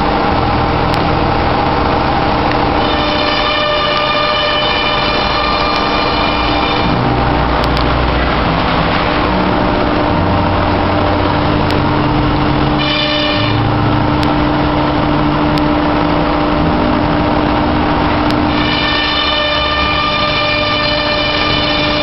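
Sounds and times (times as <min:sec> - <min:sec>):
constant hum: 0:00.0 - 0:22.0
high whine: 0:00.0 - 0:22.0.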